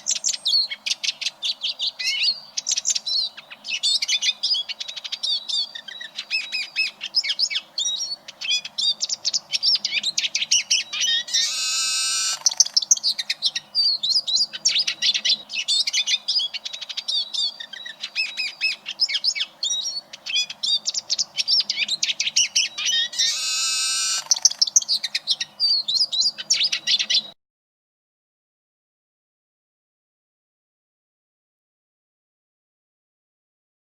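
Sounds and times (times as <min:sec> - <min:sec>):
bird twittering song: 0:00.0 - 0:27.4.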